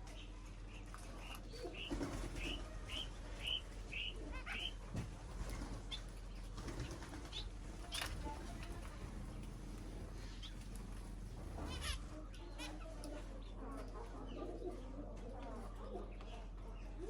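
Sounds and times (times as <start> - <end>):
cage birds chirping: 0.0 - 17.0.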